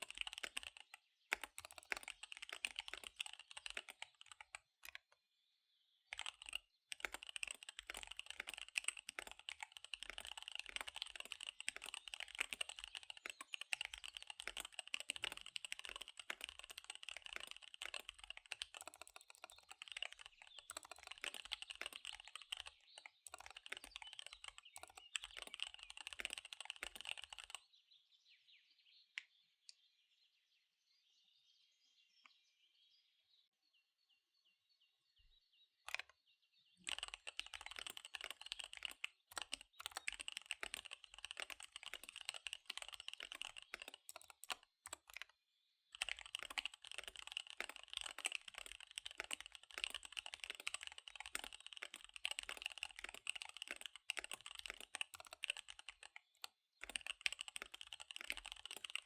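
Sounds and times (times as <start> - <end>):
fast typing on mechanical keyboard: 0.0 - 5.0, 6.1 - 27.6, 36.8 - 45.3, 45.9 - 59.0.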